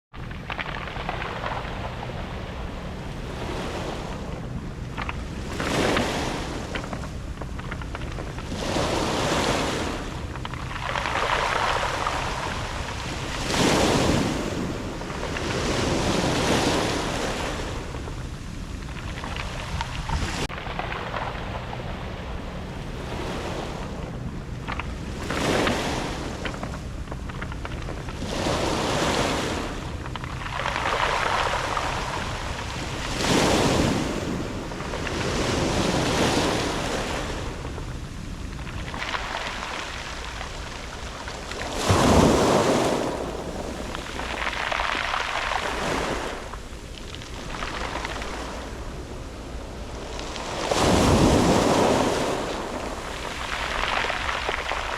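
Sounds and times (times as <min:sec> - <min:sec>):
sea waves breaking on pebbles: 0:00.2 - 0:54.9.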